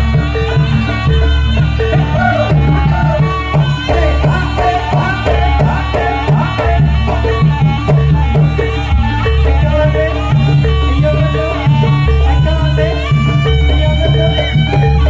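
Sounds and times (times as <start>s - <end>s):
hand drums: 0.0s - 15.0s
traditional ensemble music: 0.0s - 15.0s.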